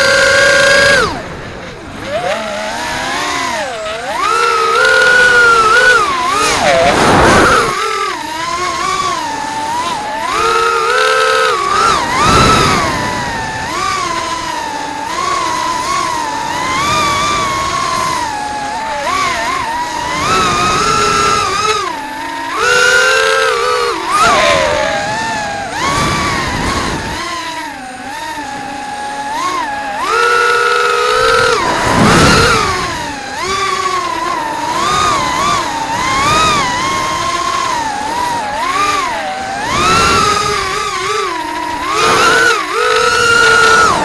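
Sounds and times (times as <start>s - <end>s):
drone electric motors whining: 0.0s - 44.0s.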